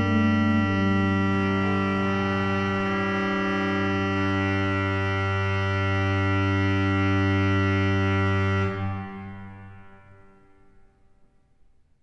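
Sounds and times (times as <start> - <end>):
church organ chord: 0.0 - 10.8.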